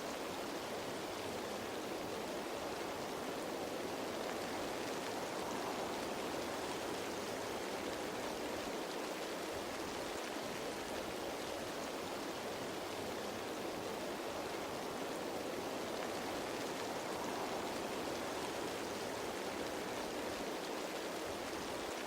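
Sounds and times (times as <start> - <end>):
rain falling on leaves: 0.0 - 22.0.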